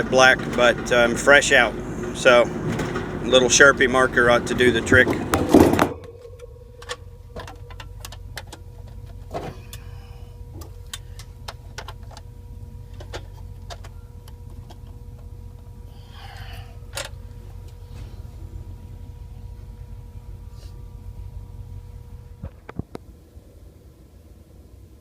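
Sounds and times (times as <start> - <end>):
steady low hum: 0.0 - 22.4.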